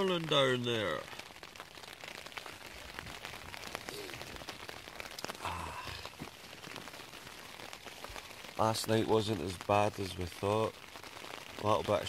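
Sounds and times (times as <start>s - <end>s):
rain on tent flysheet: 0.0s - 12.0s.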